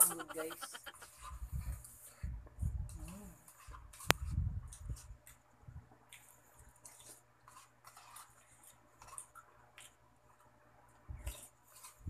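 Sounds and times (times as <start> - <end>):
faint chewing and mouth sounds: 0.0 - 12.0.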